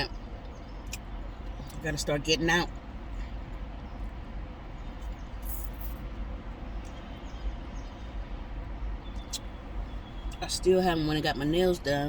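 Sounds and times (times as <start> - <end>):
low rumble in car cabin: 0.0 - 12.0.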